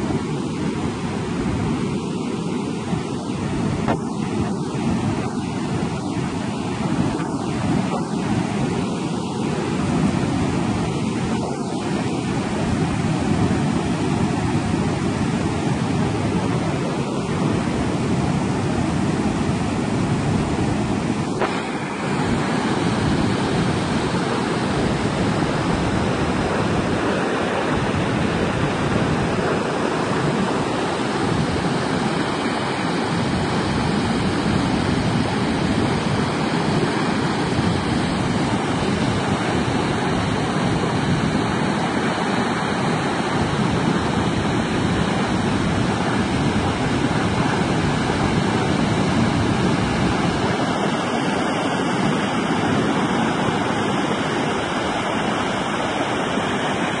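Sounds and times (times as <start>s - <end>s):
water rushing over a weir: 0.0s - 57.0s.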